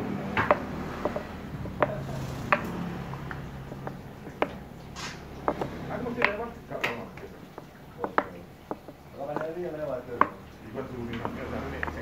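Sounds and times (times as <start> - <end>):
wood blocks knocking on wooden table: 0.4 - 12.0.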